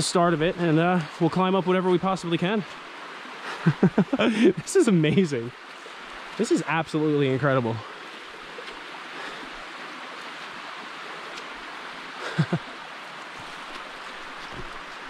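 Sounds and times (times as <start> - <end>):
brook water rushing over rock: 0.0 - 15.0.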